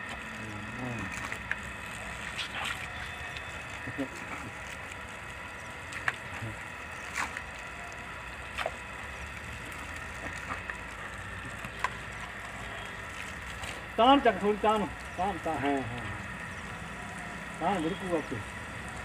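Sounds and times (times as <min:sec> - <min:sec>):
water spraying from hose: 0:00.0 - 0:19.0.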